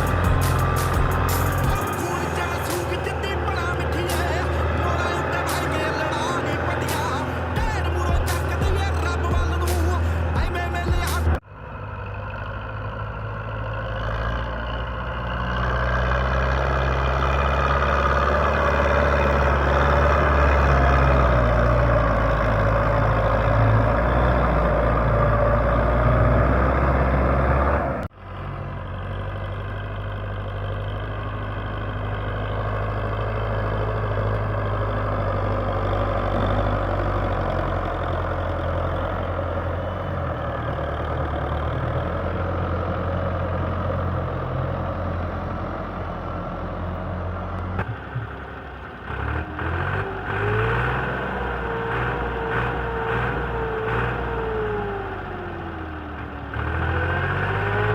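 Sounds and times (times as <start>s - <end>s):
engine running: 0.0s - 57.9s
tractor diesel engine running: 0.0s - 57.9s.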